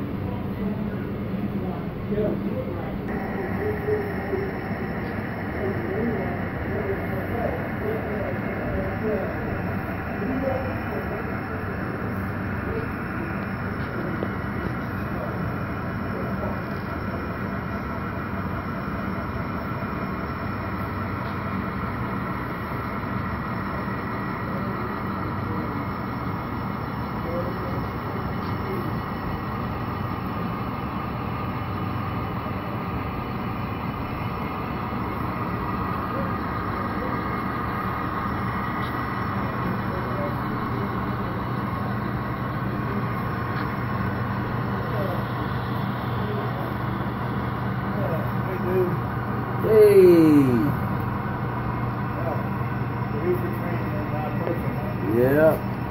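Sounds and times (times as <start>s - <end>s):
model train running slowly: 0.0s - 55.9s.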